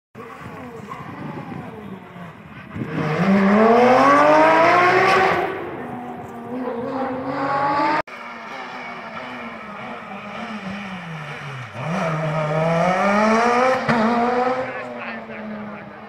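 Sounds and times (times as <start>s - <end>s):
rally car engine revving: 0.2s - 16.0s.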